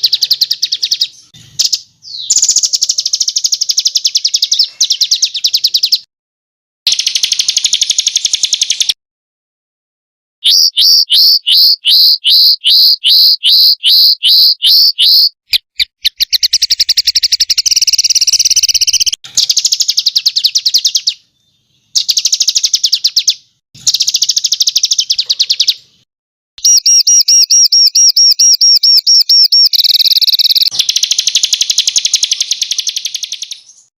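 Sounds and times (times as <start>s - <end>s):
songbird whistles and trills: 0.0s - 6.1s, 6.9s - 9.0s, 10.4s - 21.2s, 21.8s - 26.0s, 26.6s - 33.9s.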